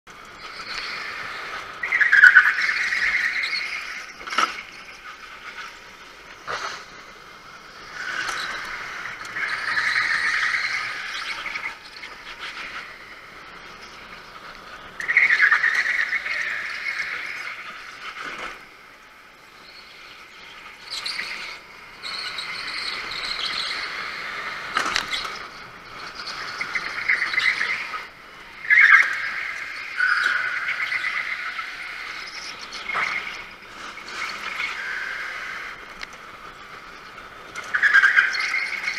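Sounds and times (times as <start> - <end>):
go-kart engine at speed: 0.1 - 38.9.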